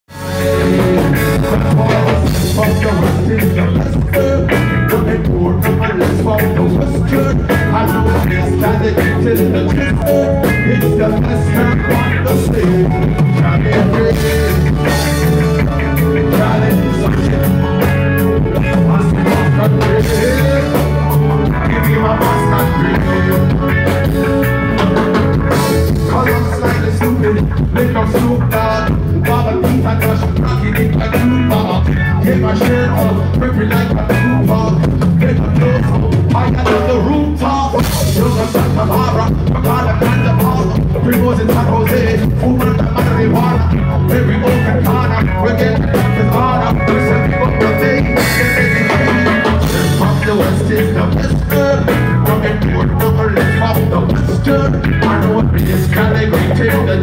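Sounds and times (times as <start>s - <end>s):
live reggae band playing: 0.1s - 57.0s.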